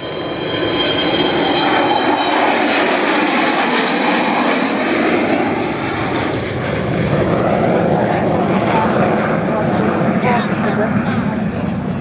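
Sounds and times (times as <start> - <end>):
jet bomber flyby roar: 0.0 - 12.0.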